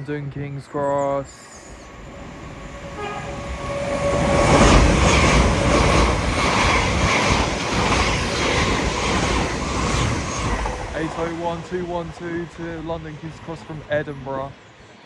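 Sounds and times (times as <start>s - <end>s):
train passing at speed: 0.7s - 15.0s.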